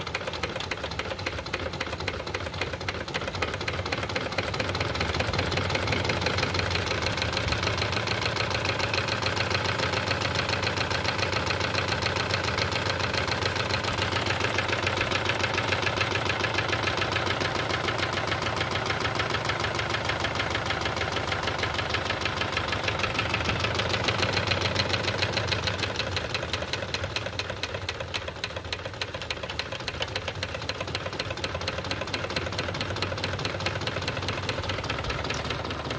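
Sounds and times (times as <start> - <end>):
steam engine clattering: 0.0 - 35.9.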